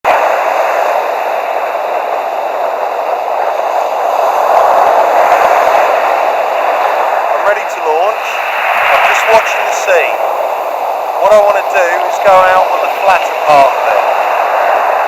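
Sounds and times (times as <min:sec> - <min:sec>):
surf washing on beach: 0:00.1 - 0:15.0.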